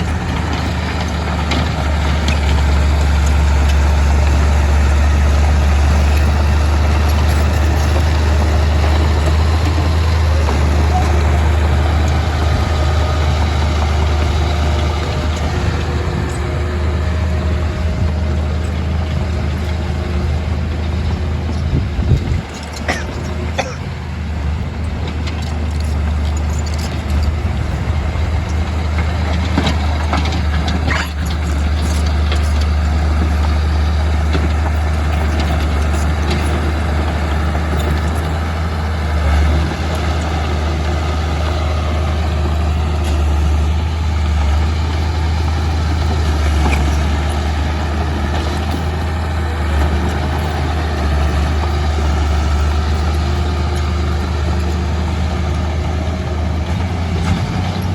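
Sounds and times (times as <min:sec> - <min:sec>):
bulldozer diesel engine droning: 0:00.0 - 0:57.9.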